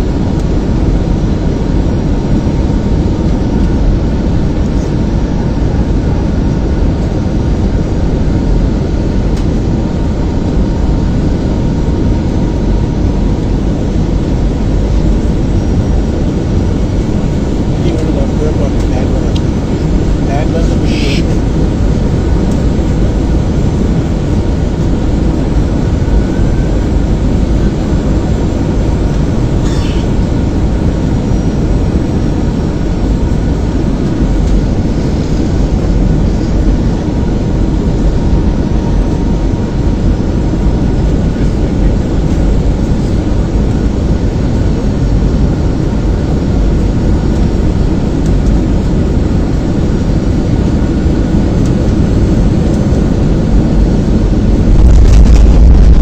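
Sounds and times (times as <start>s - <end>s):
jet engines and airflow roaring: 0.0s - 56.0s.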